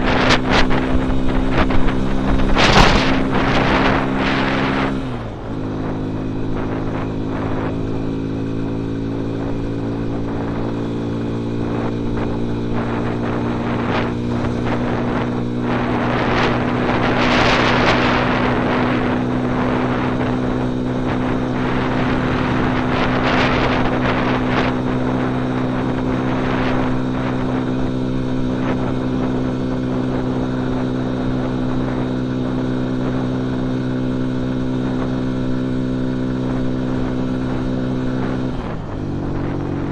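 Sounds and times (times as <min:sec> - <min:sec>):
rushing air noise: 0:00.0 - 0:33.2
motorcycle engine running: 0:00.0 - 0:39.9.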